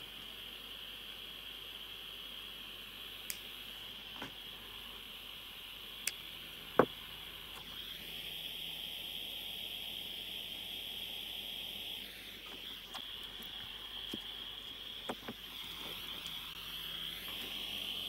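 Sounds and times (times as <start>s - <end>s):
soldering iron hissing: 0.0s - 18.0s.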